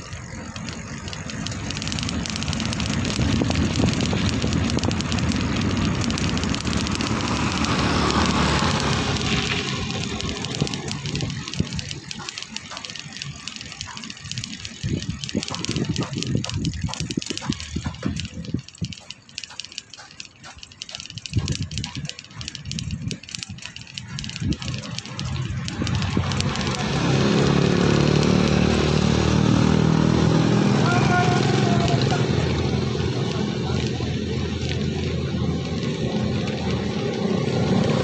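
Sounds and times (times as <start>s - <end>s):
motorcycle engine: 0.0s - 38.0s
rattling on rough road: 0.0s - 38.0s.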